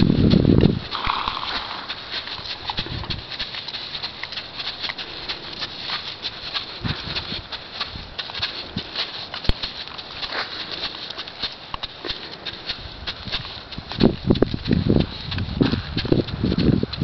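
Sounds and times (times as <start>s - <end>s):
horse hooves on dirt: 0.0s - 17.0s.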